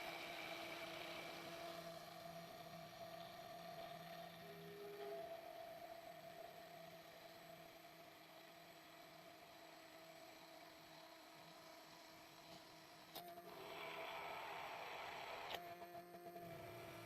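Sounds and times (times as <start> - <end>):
immersion blender humming: 0.0 - 17.0.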